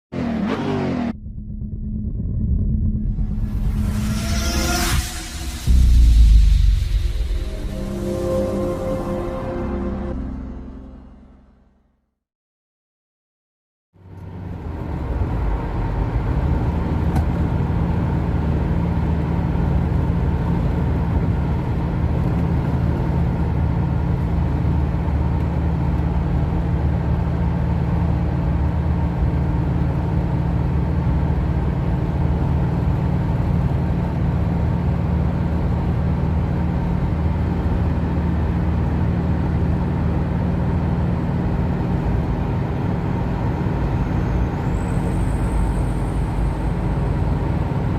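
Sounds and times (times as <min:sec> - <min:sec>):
vehicle engine humming: 0:00.4 - 0:11.7, 0:14.0 - 0:47.9
road noise: 0:02.8 - 0:11.6, 0:14.0 - 0:47.9.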